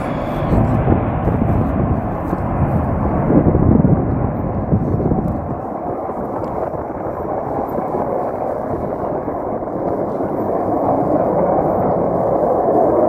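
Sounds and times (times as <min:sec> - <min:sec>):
jet aircraft climbing: 0:00.0 - 0:13.0.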